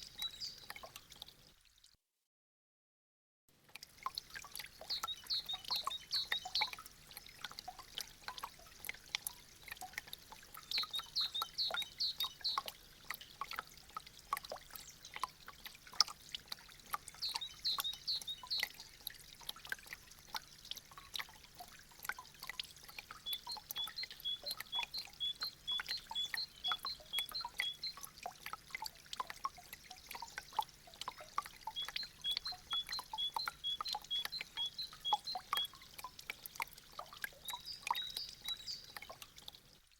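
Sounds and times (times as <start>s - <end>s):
meltwater dripping: 0.0s - 1.6s, 3.6s - 39.9s
light water trickle: 0.0s - 2.1s, 3.5s - 39.9s.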